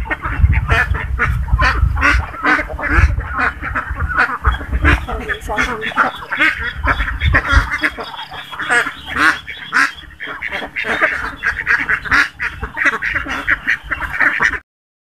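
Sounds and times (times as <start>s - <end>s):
flock of ducks quacking: 0.0s - 14.6s.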